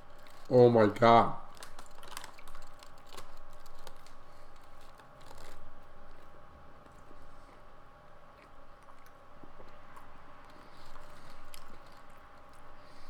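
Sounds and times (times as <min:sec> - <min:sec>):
faint steady hum: 0:00.0 - 0:13.0
person chewing food: 0:01.5 - 0:13.0.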